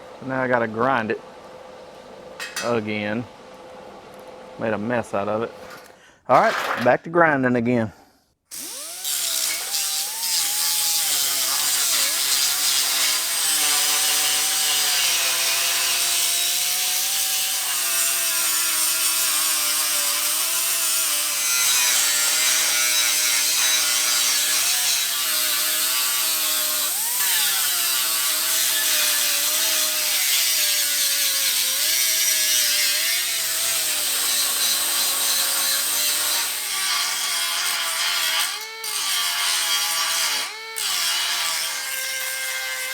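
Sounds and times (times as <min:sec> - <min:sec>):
electric grinder grinding metal: 0:08.5 - 0:42.9.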